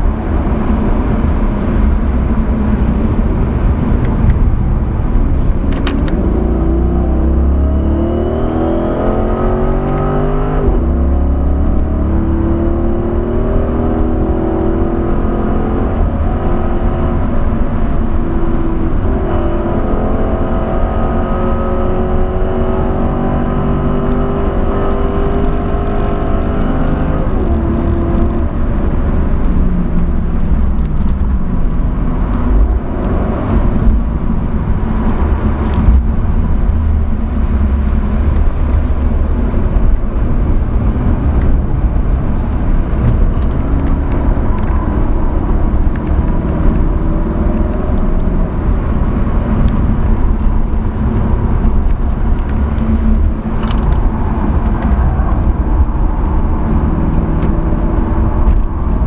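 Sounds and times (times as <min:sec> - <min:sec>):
car engine drone from cabin: 0:00.0 - 0:59.0.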